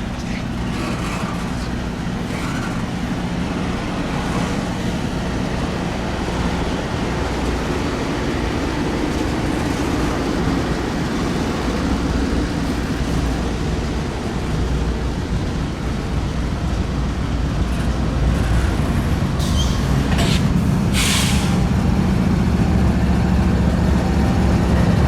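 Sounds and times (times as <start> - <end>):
large vehicle engine rumble: 0.0 - 25.0.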